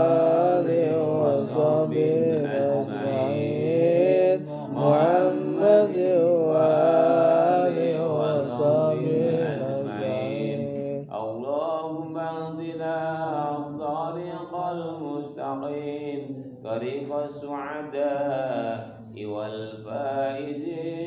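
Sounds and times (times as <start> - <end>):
man chanting: 0.0 - 21.0.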